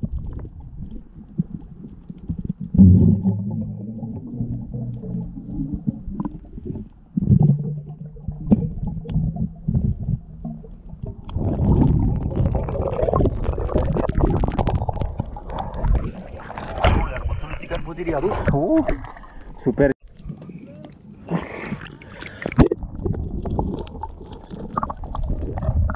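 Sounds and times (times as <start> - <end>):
muffled underwater rumble: 0.0 - 25.9
water churning with small knocks: 0.0 - 25.9.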